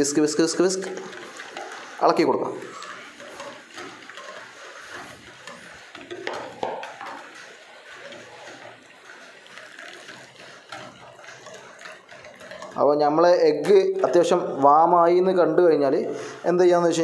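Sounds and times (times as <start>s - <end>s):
whisk clinking in a bowl: 0.0s - 14.6s.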